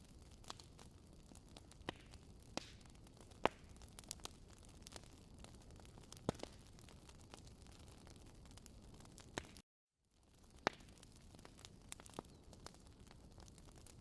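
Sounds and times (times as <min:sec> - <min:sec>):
campfire pops and snaps: 0:00.0 - 0:09.6, 0:10.3 - 0:14.0
low hiss of burning fire: 0:00.0 - 0:14.0.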